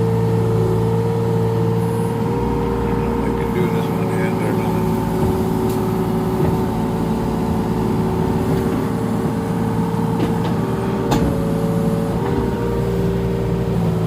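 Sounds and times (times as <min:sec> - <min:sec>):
excavator engine under load: 0:00.0 - 0:14.0.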